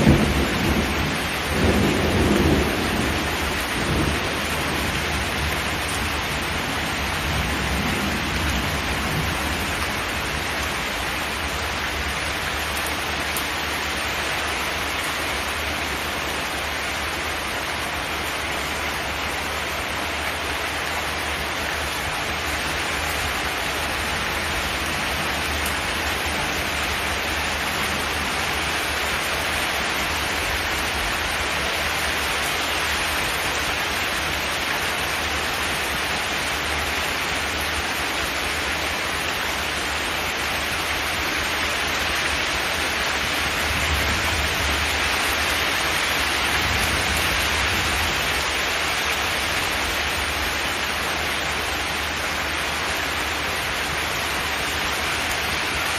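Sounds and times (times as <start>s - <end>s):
rain on a metal roof: 0.0s - 55.9s.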